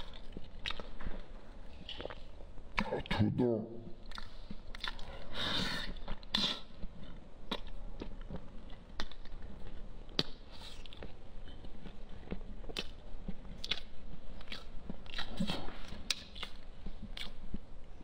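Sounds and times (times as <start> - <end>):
wet lip smacks and mouth clicks: 0.0 - 1.1, 1.8 - 3.1, 4.0 - 17.6.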